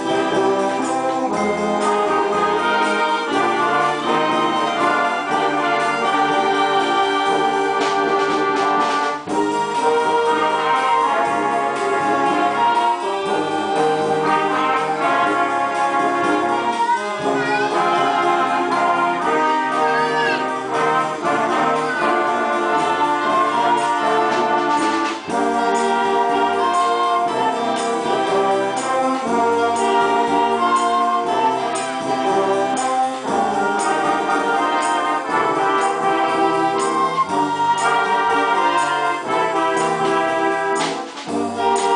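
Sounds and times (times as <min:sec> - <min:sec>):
concert band playing: 0:00.0 - 0:41.9.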